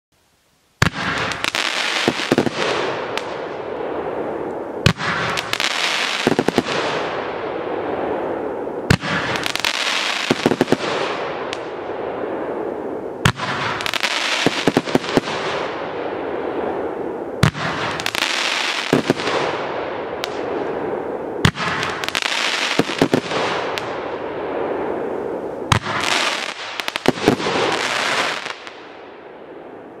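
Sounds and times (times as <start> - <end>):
crackle of bursting firework stars: 0.2 - 30.0.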